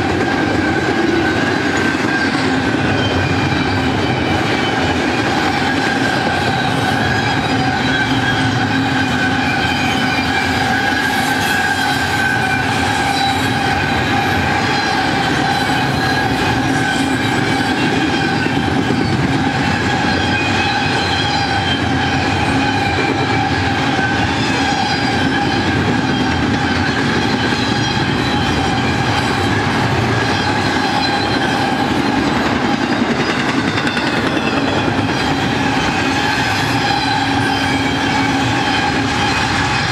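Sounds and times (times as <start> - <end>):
high-pitched wheel squeal: 0.0 - 39.9
train wheels rumbling on rails: 0.0 - 39.9.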